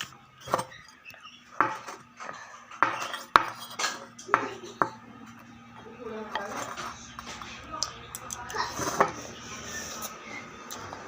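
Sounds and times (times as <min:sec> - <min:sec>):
cutlery clinking and scraping plate: 0:00.0 - 0:05.4, 0:06.3 - 0:11.0.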